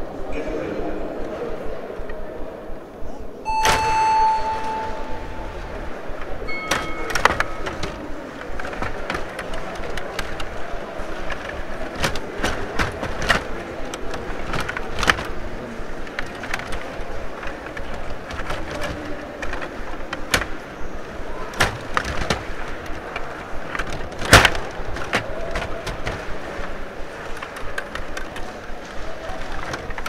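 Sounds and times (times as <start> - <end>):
steady background din: 0.0 - 30.0.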